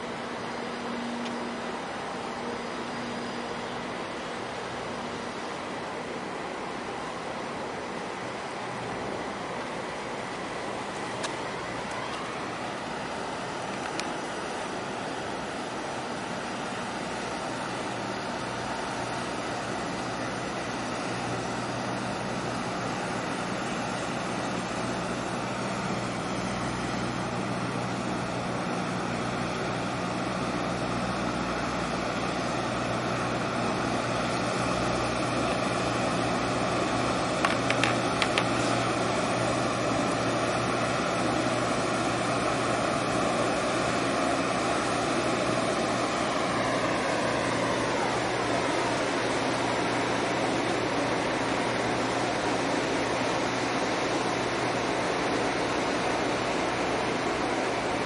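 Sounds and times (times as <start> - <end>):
diesel engine drone: 0.0 - 58.0.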